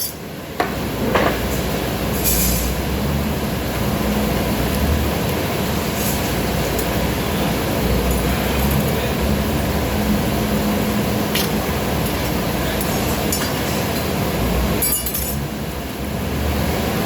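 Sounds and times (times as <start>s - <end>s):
mechanical drone with low hum: 0.0s - 17.0s.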